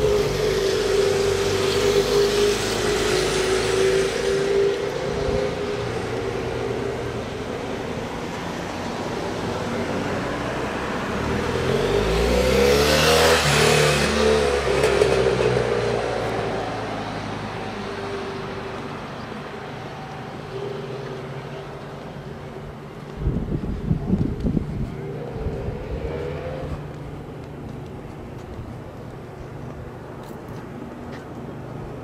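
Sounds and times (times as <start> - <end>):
vehicle passing by: 0.0 - 22.4, 23.2 - 29.0.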